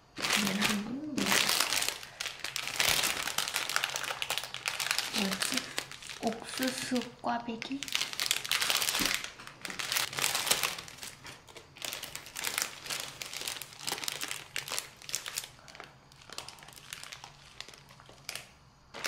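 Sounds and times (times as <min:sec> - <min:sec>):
plastic wrapper crinkling: 0:00.0 - 0:19.0.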